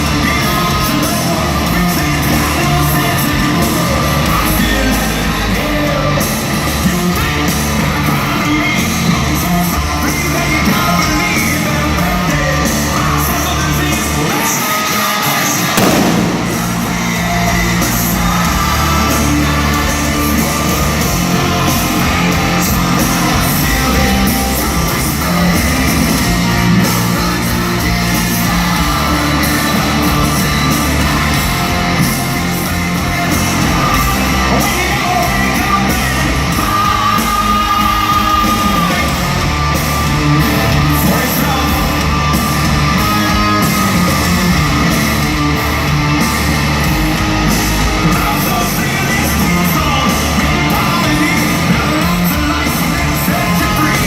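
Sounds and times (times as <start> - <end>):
distorted electric guitars: 0.0 - 54.0
rock drums: 0.0 - 54.0.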